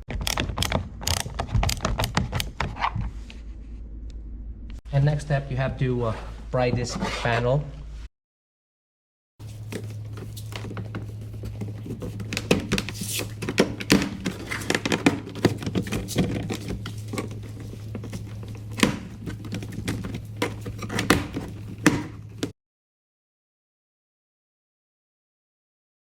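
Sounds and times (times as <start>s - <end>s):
steady low hum: 0.2s - 8.1s, 9.4s - 22.5s.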